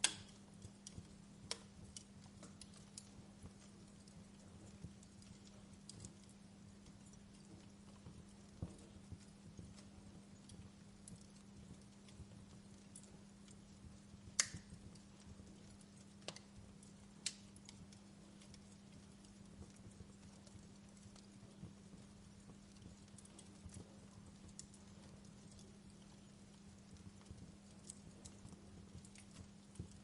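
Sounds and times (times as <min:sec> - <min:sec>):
faint low hum: 0:00.0 - 0:30.0
wood fire crackling: 0:00.0 - 0:30.0.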